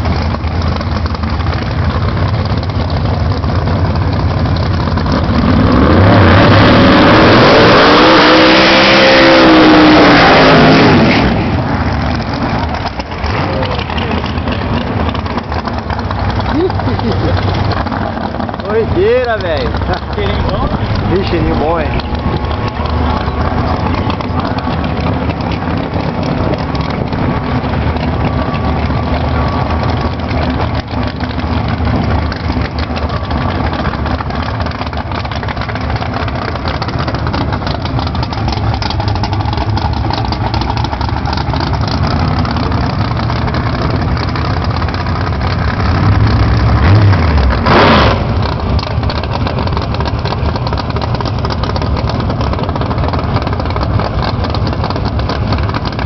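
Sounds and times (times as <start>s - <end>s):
race car engine idling and revving: 0.0s - 56.0s.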